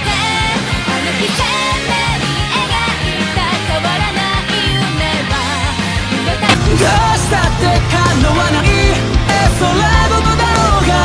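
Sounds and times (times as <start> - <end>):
person singing: 0.0 - 11.0
sustained bass line: 0.0 - 11.0
band playing: 0.1 - 11.0
drum beat: 1.4 - 11.0.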